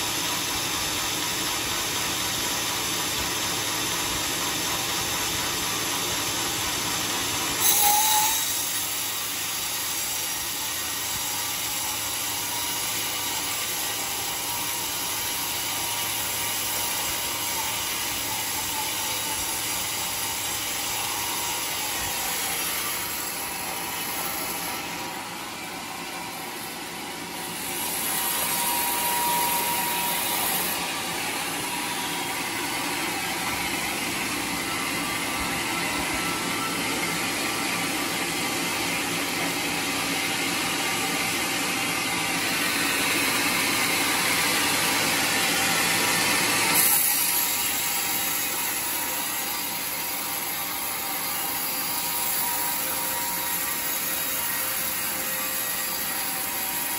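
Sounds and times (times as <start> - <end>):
band saw cutting log: 0.0 - 56.9.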